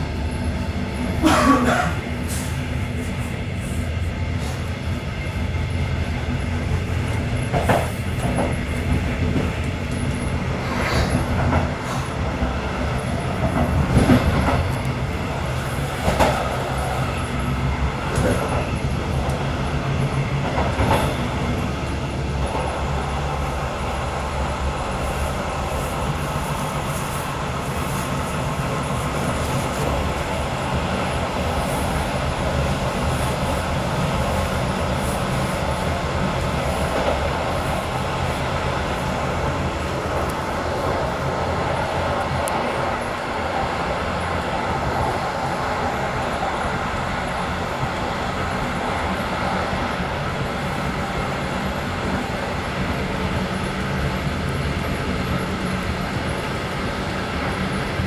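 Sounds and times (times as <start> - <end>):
train rolling noise: 0.0 - 58.0.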